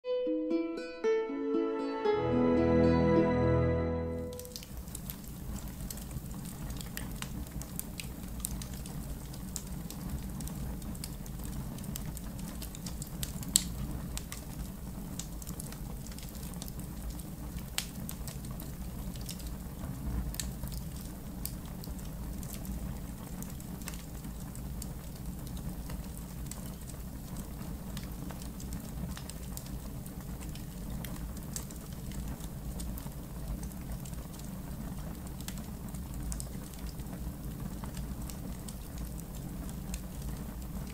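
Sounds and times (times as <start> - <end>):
wood fire crackling: 4.2 - 40.9
low fire rumble: 4.4 - 40.9.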